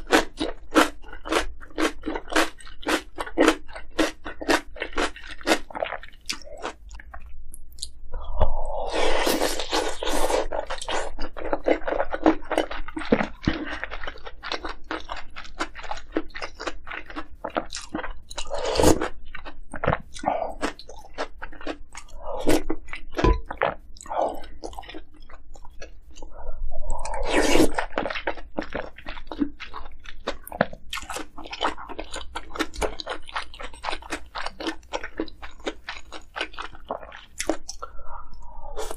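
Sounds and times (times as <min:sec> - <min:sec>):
wet crunching and chewing: 0:00.0 - 0:08.0, 0:08.8 - 0:38.9.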